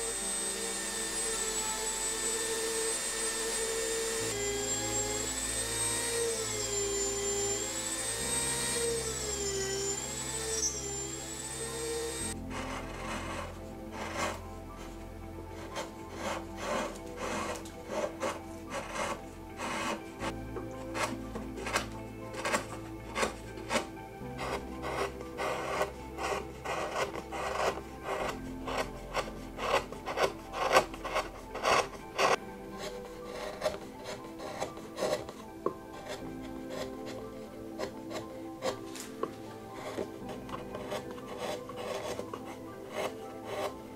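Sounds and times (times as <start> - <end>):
rotary tool whining into wood: 0.0 - 43.9
soft background music: 0.0 - 43.9
gouge scraping wood: 1.9 - 43.9.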